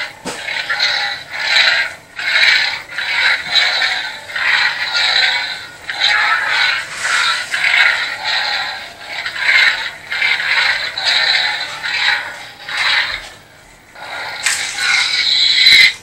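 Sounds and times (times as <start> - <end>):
toy lightsaber hum and swings: 0.0 - 16.0.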